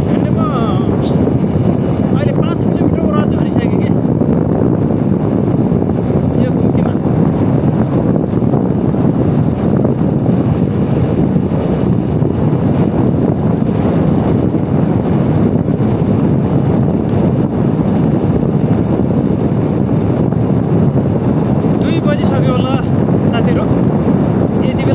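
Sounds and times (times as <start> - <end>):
wind rushing on microphone: 0.0 - 24.9.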